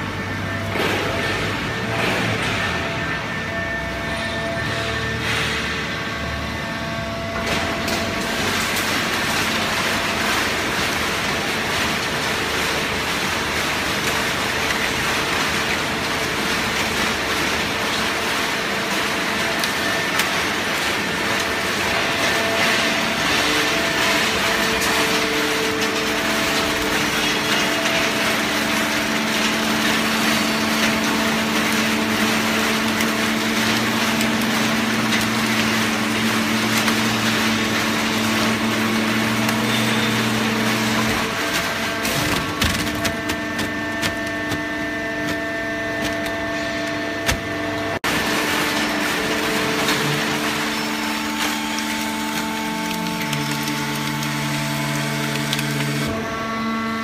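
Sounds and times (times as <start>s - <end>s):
hydraulic baler machine running: 0.0s - 57.0s.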